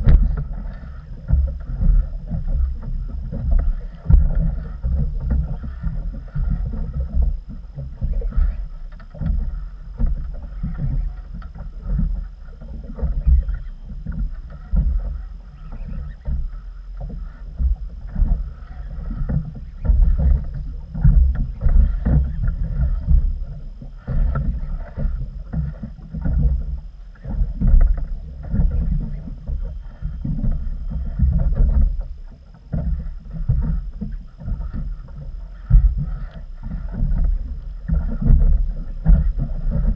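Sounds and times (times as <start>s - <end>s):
waves slapping boat hull: 0.0s - 39.9s
wind buffeting microphone: 0.0s - 39.9s.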